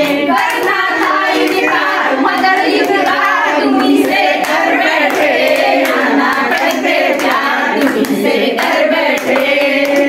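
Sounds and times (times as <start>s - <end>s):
hands clapping in time: 0.0s - 10.0s
women singing together: 0.0s - 10.0s.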